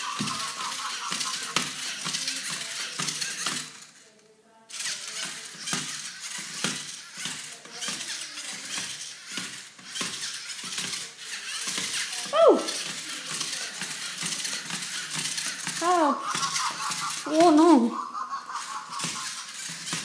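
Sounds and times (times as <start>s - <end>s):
robot motors and parts clattering: 0.0s - 4.0s, 4.7s - 20.0s.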